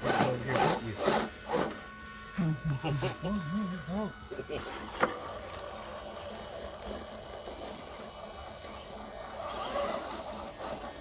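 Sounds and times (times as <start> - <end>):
electric rc truck motor: 0.0 - 11.0.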